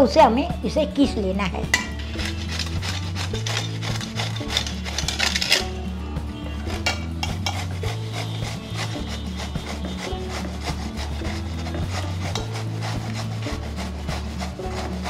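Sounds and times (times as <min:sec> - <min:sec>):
soft background music: 0:00.0 - 0:15.0
gourd scraping on metal grater: 0:01.8 - 0:05.8, 0:06.6 - 0:15.0.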